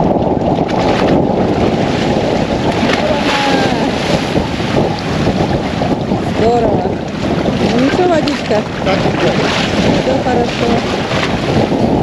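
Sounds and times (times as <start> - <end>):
man wading and swimming splashes: 0.0 - 12.0
waves washing against steps: 0.0 - 12.0
wind buffeting microphone: 0.0 - 12.0.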